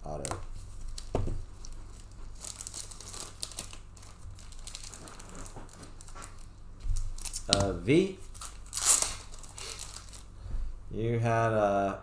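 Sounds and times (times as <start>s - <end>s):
steady low hum: 0.0s - 12.0s
plastic packaging crinkling: 0.1s - 10.4s.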